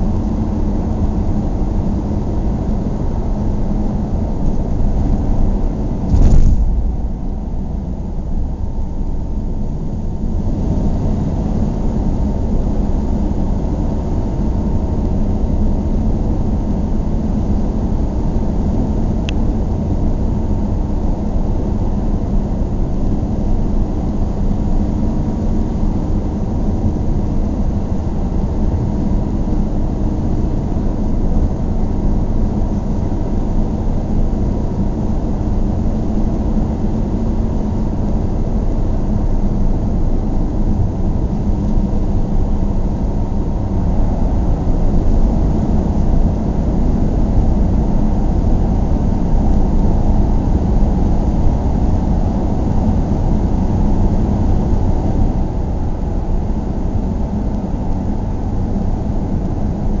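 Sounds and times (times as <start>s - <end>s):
car tyres and engine rumble: 0.0s - 60.0s.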